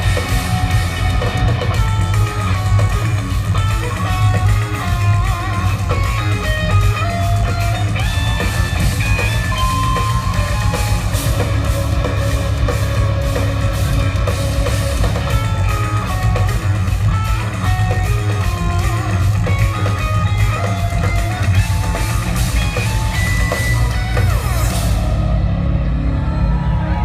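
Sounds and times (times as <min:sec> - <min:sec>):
drum kit: 0:00.0 - 0:27.0
electric guitars: 0:00.0 - 0:27.0.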